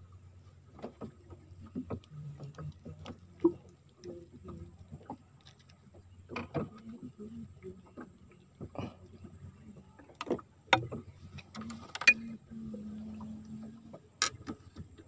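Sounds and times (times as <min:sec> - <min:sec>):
small clicks and knocks in wooden boat: 0:00.0 - 0:15.0.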